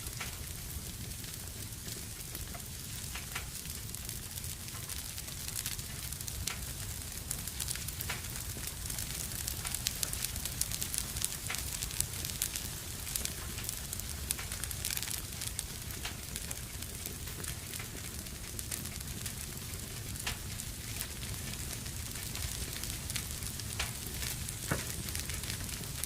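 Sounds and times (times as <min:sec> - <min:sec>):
fire crackles and pops: 0:00.0 - 0:26.0
wood fire hissing and rumbling: 0:00.0 - 0:26.0.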